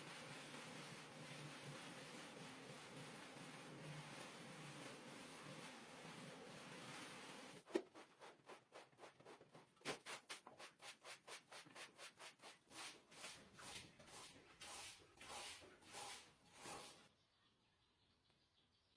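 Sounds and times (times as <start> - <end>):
scrubbing on carpet: 0.0 - 17.1.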